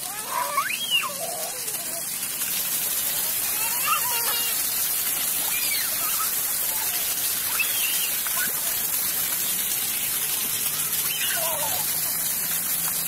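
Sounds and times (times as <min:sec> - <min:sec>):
fountain water jets spraying: 0:00.0 - 0:13.0
water pattering on wet stones: 0:00.0 - 0:13.0.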